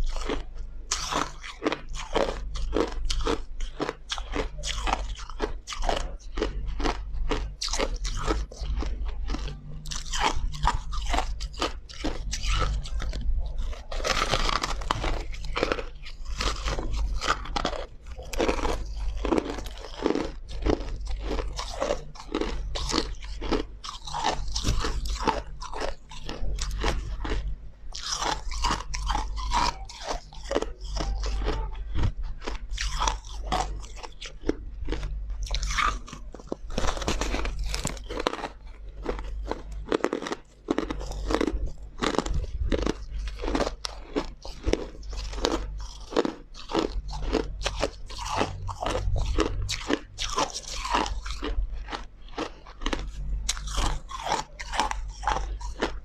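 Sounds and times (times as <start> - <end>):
person crunching ice: 0.0 - 56.0
steady low hum: 0.0 - 56.0.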